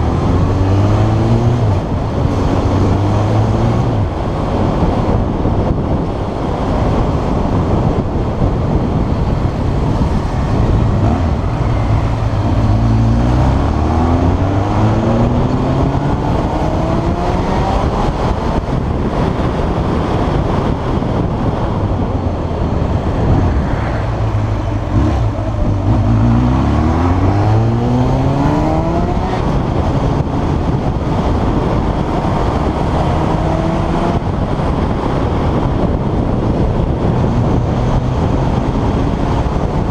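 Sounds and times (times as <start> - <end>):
motorcycle engine revving: 0.0 - 39.9
steady rush of noise: 0.0 - 39.9.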